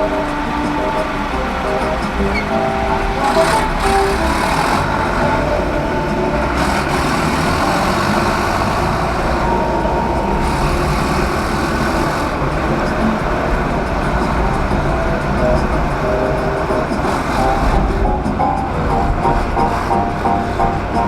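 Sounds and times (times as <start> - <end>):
faint music: 0.0 - 21.0
vehicle rumble and road noise: 0.0 - 21.0.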